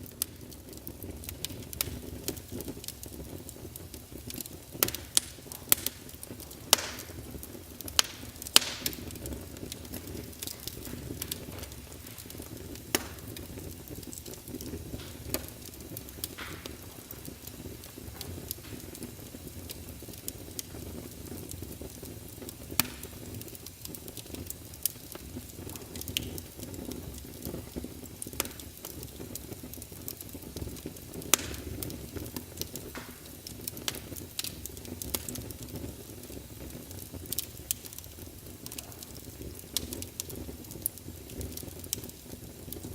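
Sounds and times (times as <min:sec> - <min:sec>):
fire crackling and popping: 0:00.0 - 0:42.9
low rush of flames: 0:00.0 - 0:42.9.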